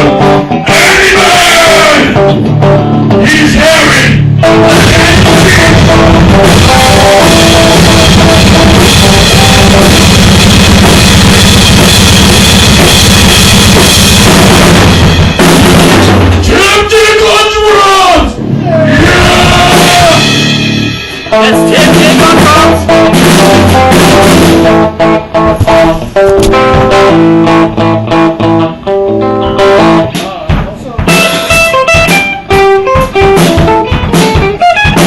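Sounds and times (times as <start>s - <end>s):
rock band playing: 0.0s - 35.0s.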